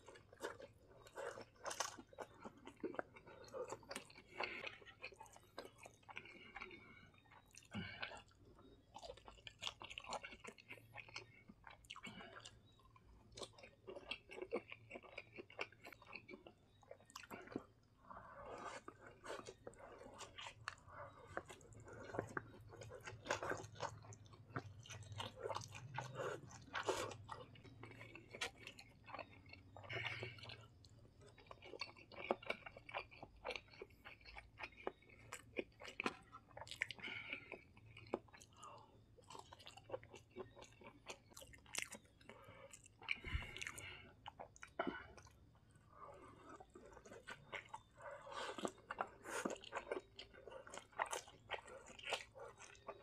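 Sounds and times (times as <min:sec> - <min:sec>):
mouth chewing noodles: 0:00.0 - 0:53.0.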